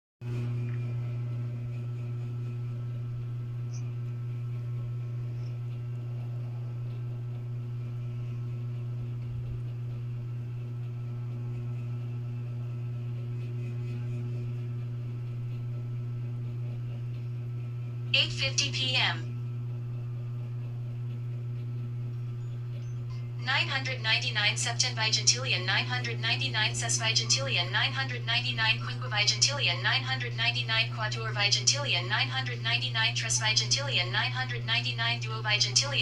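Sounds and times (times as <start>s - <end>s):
low machine hum: 0.2s - 36.0s.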